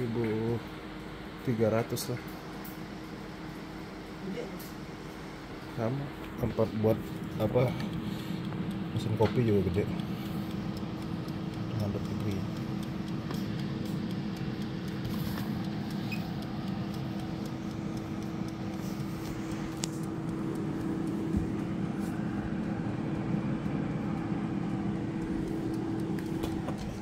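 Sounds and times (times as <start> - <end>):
air fryer fan humming: 0.0 - 27.0.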